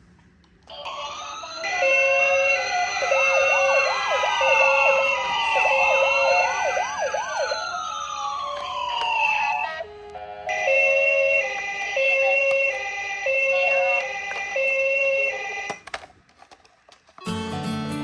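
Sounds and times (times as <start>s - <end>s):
fast warbling siren yelp: 0.7s - 15.7s
rising and falling siren wails: 0.7s - 15.7s
two-tone hi-lo siren: 0.7s - 15.8s.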